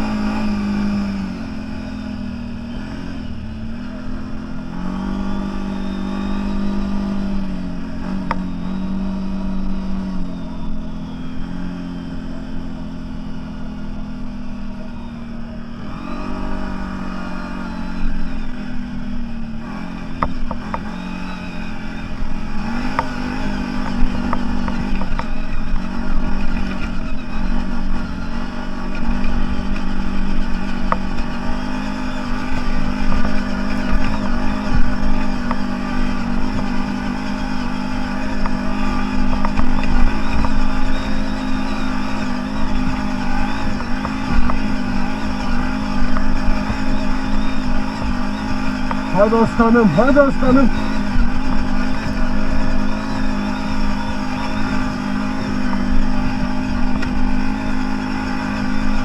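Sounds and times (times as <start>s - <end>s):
off-road engine running: 0.0s - 59.0s.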